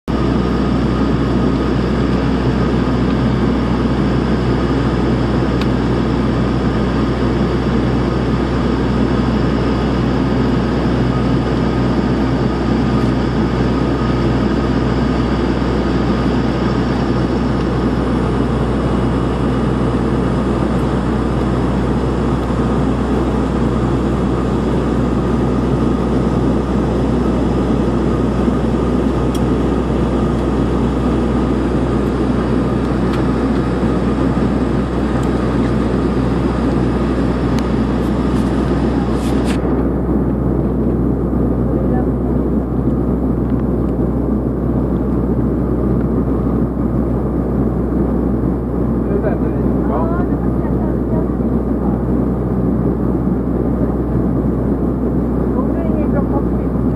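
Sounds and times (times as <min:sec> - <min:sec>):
airliner cabin engine drone: 0:00.1 - 0:56.9.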